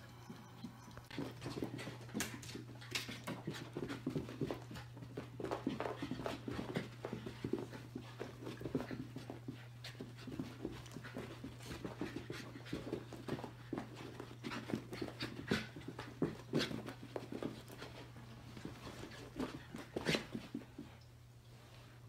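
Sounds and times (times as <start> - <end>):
dog panting: 0.7 - 20.9
paws thudding on carpet: 1.1 - 21.0.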